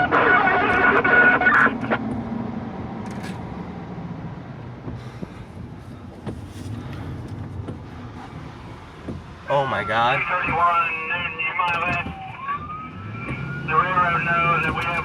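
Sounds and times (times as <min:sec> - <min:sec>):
engine and road noise in cabin: 0:00.0 - 0:15.0.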